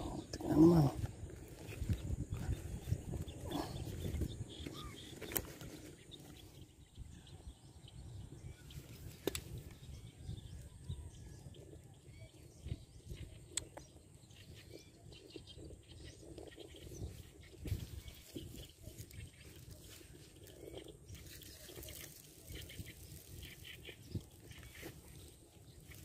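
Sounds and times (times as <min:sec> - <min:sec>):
low wind rumble on microphone: 0:00.0 - 0:26.0.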